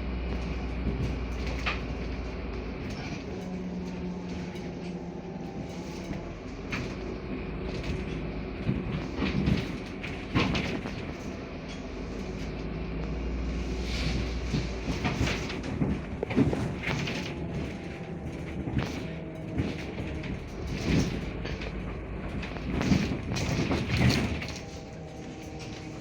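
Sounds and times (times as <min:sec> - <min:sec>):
bus engine and road drone: 0:00.0 - 0:26.0
cabin rattling: 0:00.3 - 0:12.6, 0:13.9 - 0:26.0.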